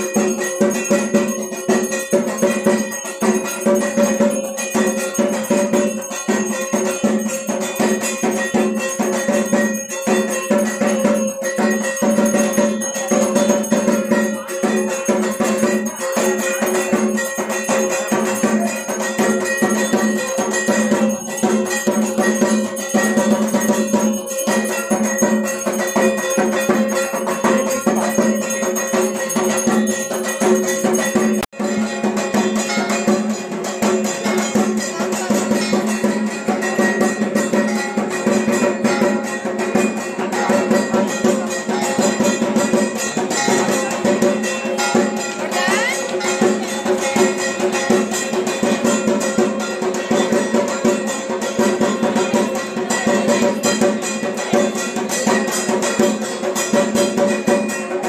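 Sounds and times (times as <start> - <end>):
bell-like metallic percussion: 0.0 - 58.0.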